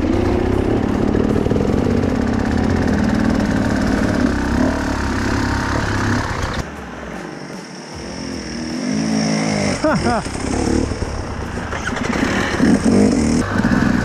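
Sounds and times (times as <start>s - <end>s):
dirt bike engine at low revs: 0.0s - 6.7s, 7.9s - 14.0s
distant motorcycle engine: 0.0s - 6.8s, 7.5s - 14.0s.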